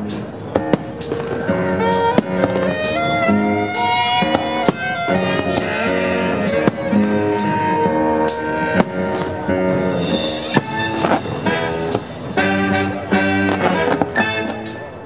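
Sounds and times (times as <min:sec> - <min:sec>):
fireworks show music: 0:00.0 - 0:15.0.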